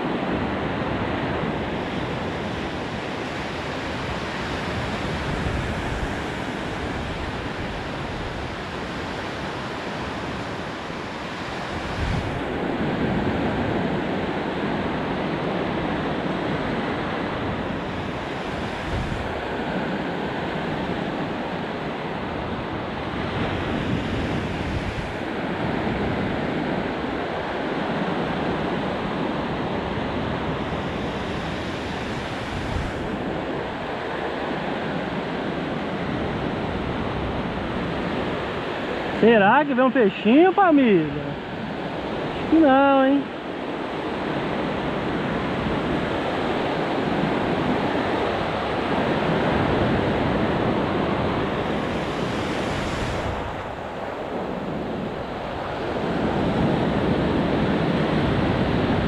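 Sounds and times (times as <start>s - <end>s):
ocean waves breaking: 0.0s - 59.0s
wind buffeting microphone: 0.0s - 59.0s.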